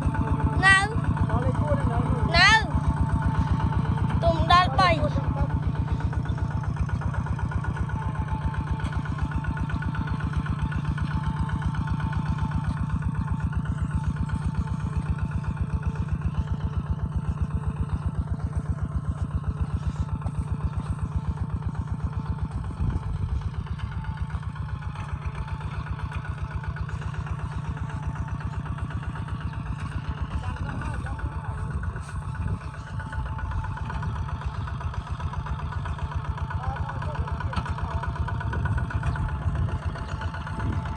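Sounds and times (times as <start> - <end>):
walking tractor diesel engine chugging: 0.0 - 40.9.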